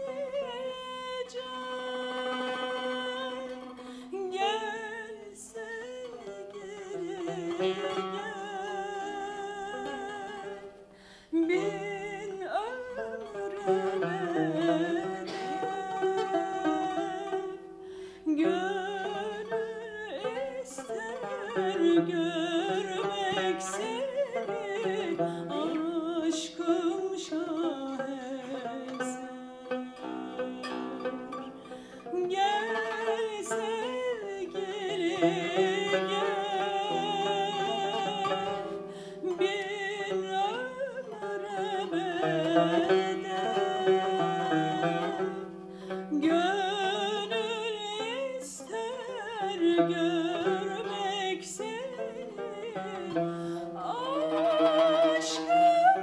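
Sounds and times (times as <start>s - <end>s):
plucked lute: 0.0s - 56.0s
woman singing: 0.0s - 56.0s.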